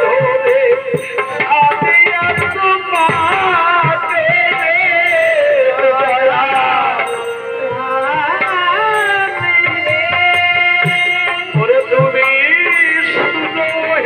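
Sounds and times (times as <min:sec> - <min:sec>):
man singing folk song: 0:00.0 - 0:14.0.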